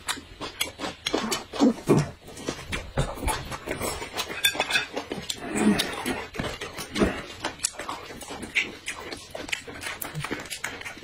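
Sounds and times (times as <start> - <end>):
chewing and mouth noises: 0.0 - 11.0.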